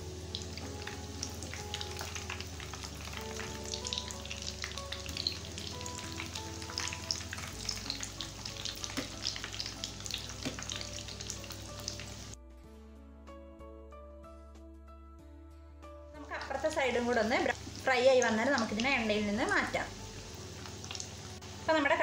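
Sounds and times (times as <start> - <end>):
cutlets sizzling in hot oil: 0.0 - 12.4, 16.3 - 22.0
soft background music: 0.0 - 22.0.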